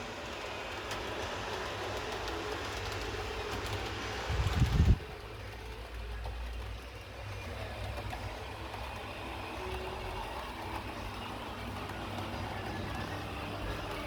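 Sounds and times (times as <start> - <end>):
model train rumble: 0.0 - 14.0.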